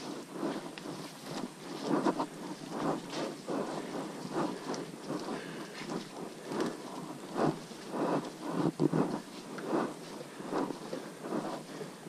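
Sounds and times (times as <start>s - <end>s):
clothing and foliage rustling: 0.0s - 12.0s.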